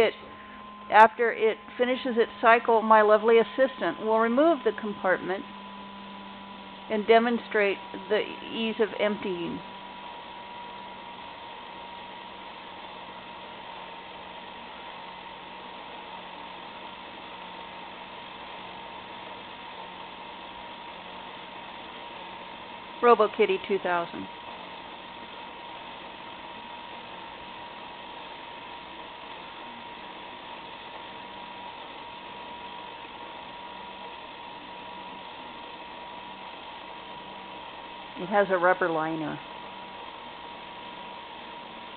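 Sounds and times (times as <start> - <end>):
motor hum: 0.0 - 41.9.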